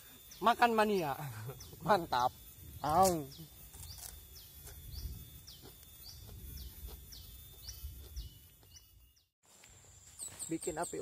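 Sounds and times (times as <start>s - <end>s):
bird chirping: 0.0s - 11.0s
faint insect drone: 0.0s - 11.0s.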